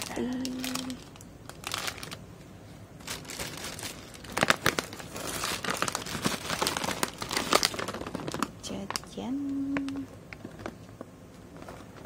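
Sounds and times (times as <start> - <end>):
shopping bag crinkling: 0.0 - 2.2, 3.0 - 10.8.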